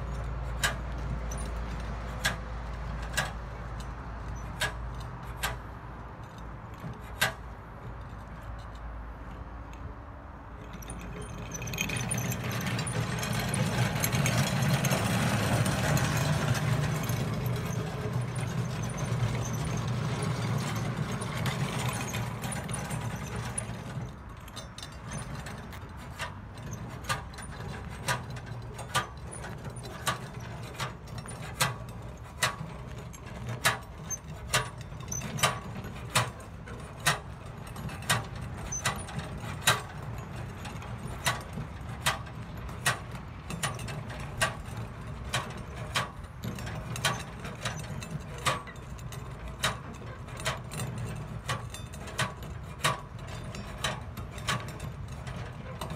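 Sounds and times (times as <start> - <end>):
low engine hum: 0.0 - 55.9.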